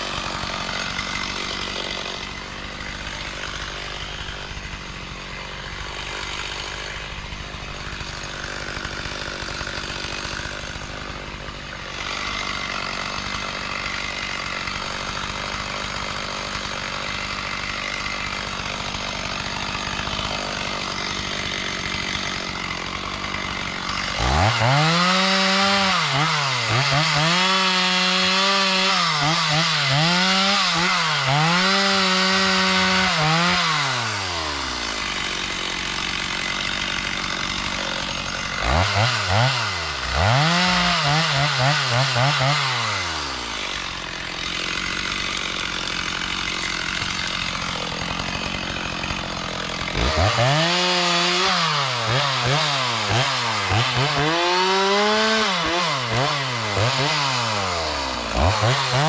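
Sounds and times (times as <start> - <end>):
chainsaw cutting wood: 0.0 - 59.0
chainsaw revving: 0.0 - 59.0.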